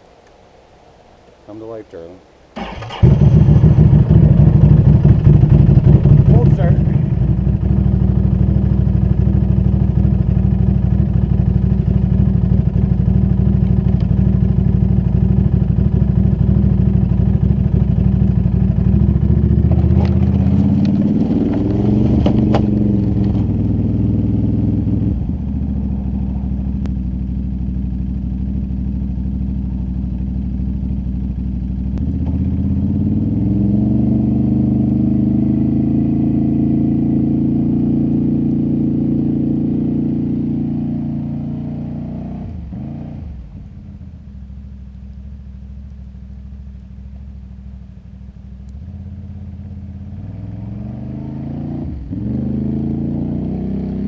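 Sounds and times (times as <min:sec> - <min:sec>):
atv engine idling and revving: 0:02.7 - 0:54.0.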